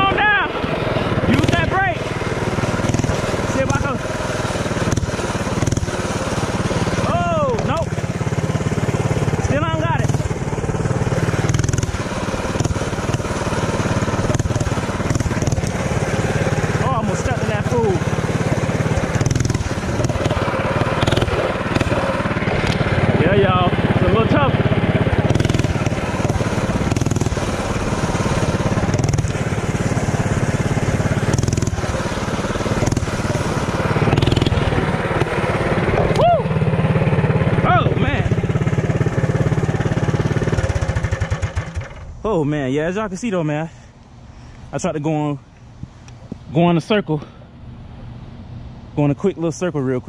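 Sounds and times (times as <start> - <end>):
small engine running: 0.0 - 50.0.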